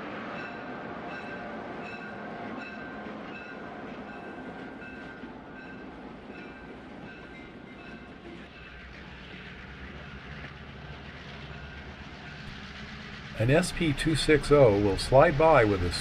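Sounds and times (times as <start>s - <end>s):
diesel locomotive running: 0.0s - 16.0s.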